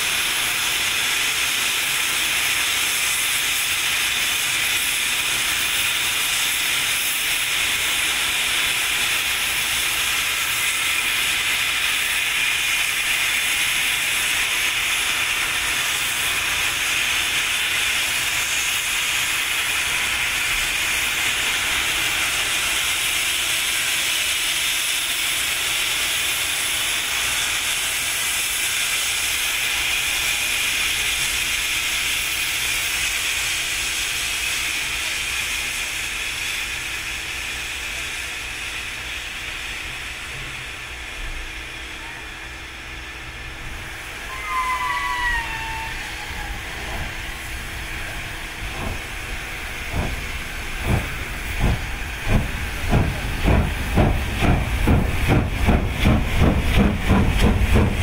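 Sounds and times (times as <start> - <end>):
steam locomotive hissing steam: 0.0 - 58.0.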